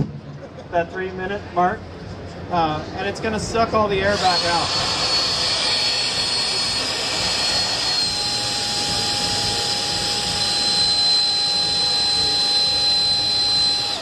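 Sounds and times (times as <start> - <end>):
electric fan high whine: 0.0 - 14.0
lower fan tone: 0.0 - 14.0.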